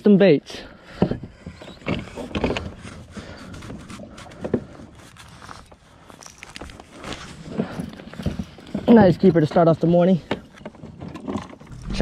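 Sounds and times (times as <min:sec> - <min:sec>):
knocks clicks and scrapes: 0:01.0 - 0:12.0.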